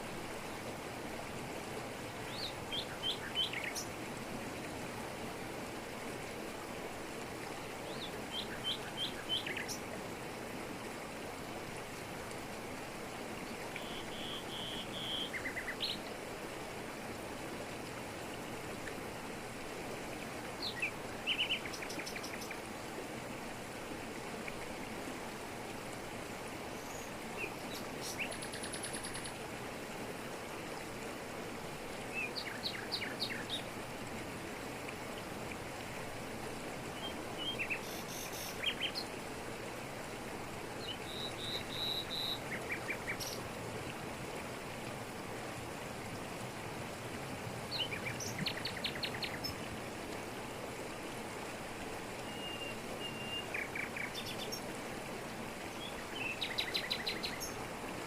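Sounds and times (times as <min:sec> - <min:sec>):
waterfall pouring over rocks: 0:00.0 - 0:58.0.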